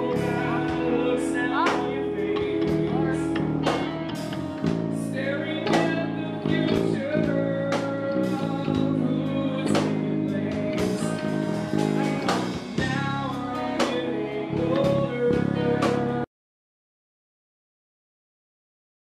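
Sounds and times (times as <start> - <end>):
live rock band playing: 0.0 - 16.2
man singing into microphone: 0.0 - 16.3.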